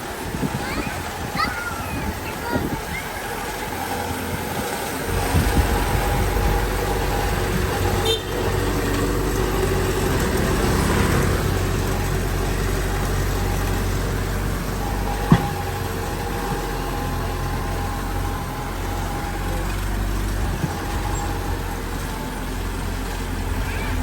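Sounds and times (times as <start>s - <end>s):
diesel machinery engine running: 0.0s - 24.0s.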